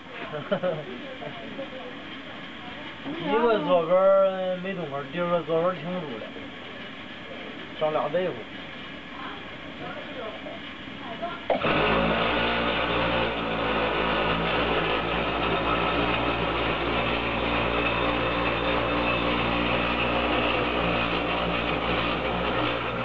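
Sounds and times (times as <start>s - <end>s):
dispensing machine motor hum: 0.0s - 23.0s.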